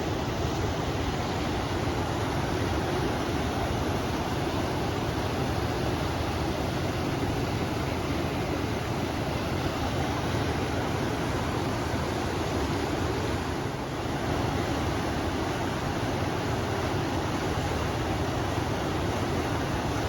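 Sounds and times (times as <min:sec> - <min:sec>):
river water rushing: 0:00.0 - 0:20.0
wind: 0:00.0 - 0:20.0.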